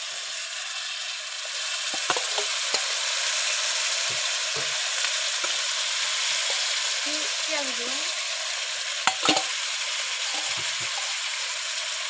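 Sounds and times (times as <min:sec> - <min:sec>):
masala sizzling in a frying pan: 0:00.0 - 0:12.0.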